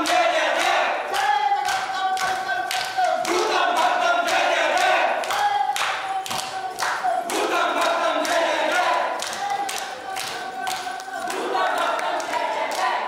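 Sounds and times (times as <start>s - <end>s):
group singing folk song: 0.0s - 13.0s.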